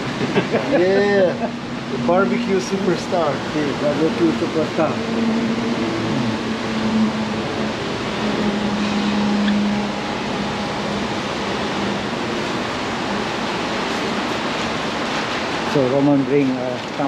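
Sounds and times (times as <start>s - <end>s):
low hum: 0.0s - 15.4s
rain hissing: 0.0s - 17.0s.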